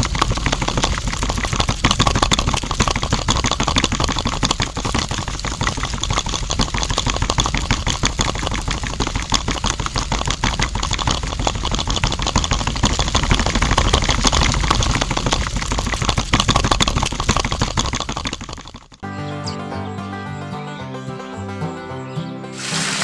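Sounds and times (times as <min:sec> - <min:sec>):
small concrete mixer rattling: 0:00.0 - 0:19.0.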